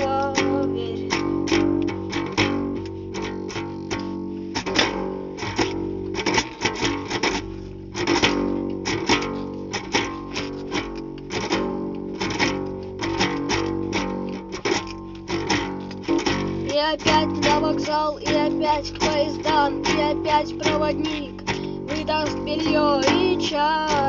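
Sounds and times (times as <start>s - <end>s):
guitar chords picked and strummed: 0.0s - 24.0s
steady bass: 0.0s - 24.0s.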